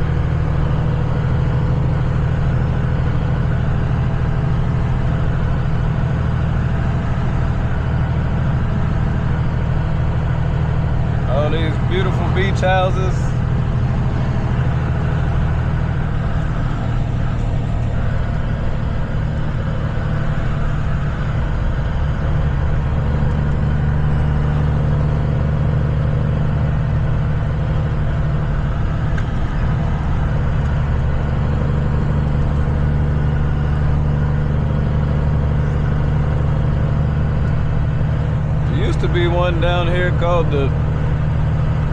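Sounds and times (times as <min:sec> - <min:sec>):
road noise: 0:00.0 - 0:41.9
truck diesel engine droning: 0:00.0 - 0:41.9.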